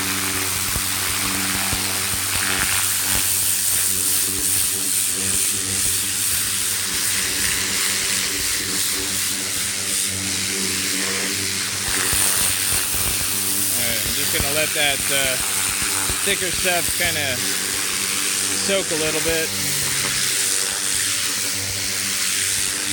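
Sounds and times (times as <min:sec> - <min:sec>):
pressure washer motor hum: 0:00.0 - 0:22.9
water jet spraying fabric: 0:00.0 - 0:22.9.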